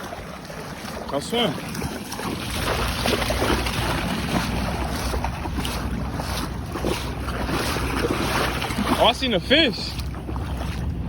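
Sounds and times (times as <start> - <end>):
shallow water splashing: 0.0 - 11.0
wind buffeting microphone: 0.0 - 11.0.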